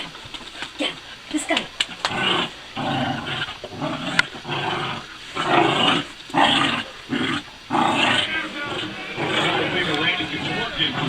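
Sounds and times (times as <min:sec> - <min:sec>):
dogs growling: 0:00.0 - 0:11.0.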